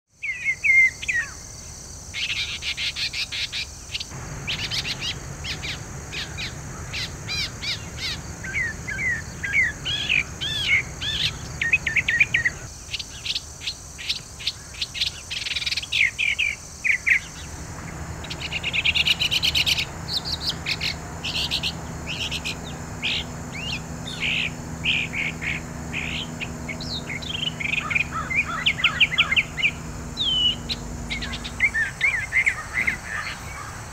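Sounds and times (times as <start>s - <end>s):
mockingbird singing: 2.2s - 33.9s.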